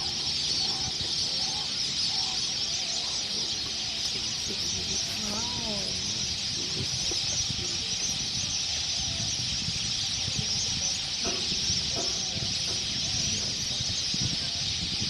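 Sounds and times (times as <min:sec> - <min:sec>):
flock of birds chirping: 0:00.0 - 0:15.0
lower bird calls: 0:00.0 - 0:15.0.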